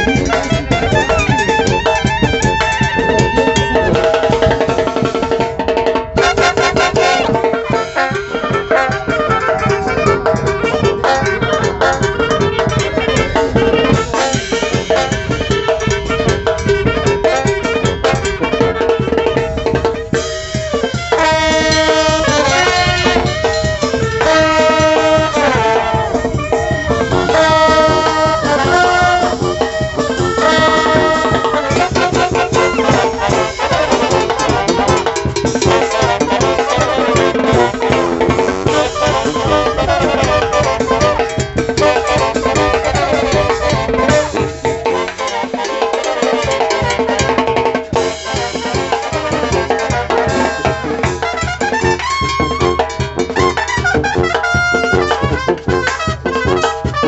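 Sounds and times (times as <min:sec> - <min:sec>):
brass band horns: 0:00.0 - 0:57.0
drums: 0:00.0 - 0:57.0.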